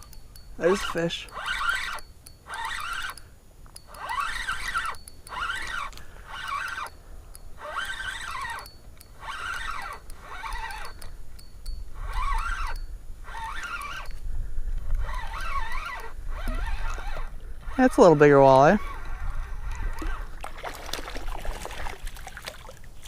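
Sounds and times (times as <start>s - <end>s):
fishing reel squeaking: 0.0s - 22.0s.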